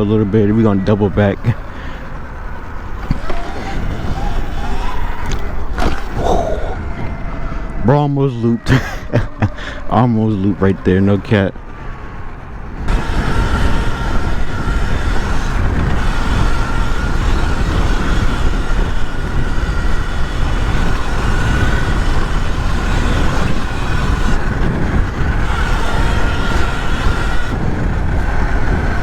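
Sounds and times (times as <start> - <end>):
electric motorbike motor whine: 0.0 - 29.0
wind buffeting microphone: 0.0 - 29.0.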